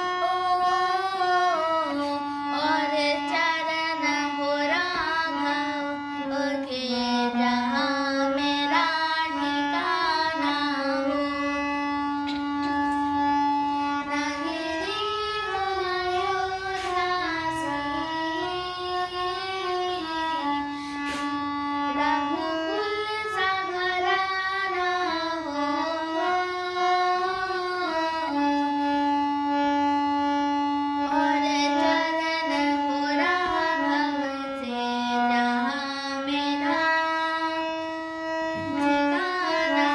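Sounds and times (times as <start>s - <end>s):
high voice singing devotional song: 0.0s - 29.2s, 31.0s - 39.9s.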